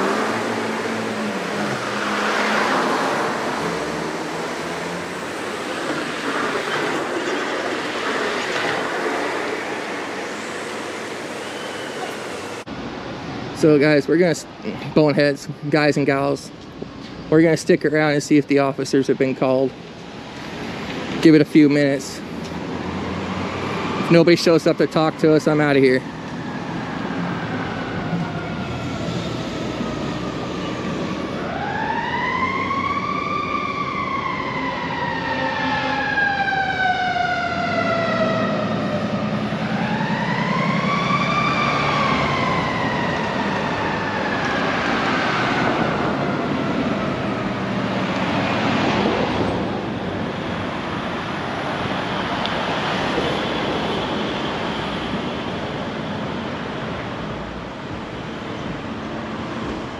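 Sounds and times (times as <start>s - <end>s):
emergency siren wailing: 0.0s - 12.8s, 22.6s - 59.9s
street traffic noise: 0.0s - 59.9s.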